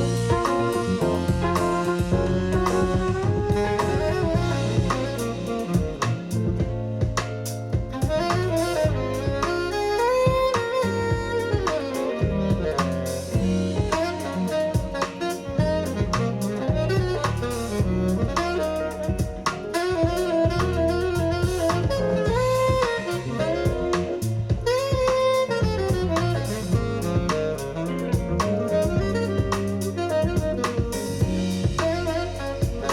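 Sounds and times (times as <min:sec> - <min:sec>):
jazz music over speakers: 0:00.0 - 0:32.9.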